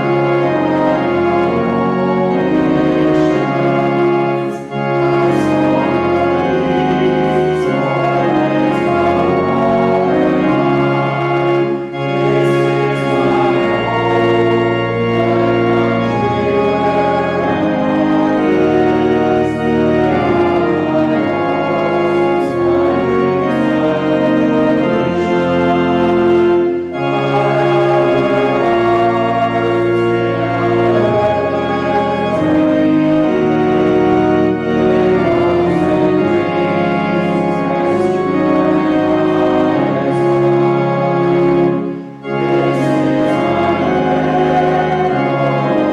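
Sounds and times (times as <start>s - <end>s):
organ playing sustained chords: 0.0s - 45.9s.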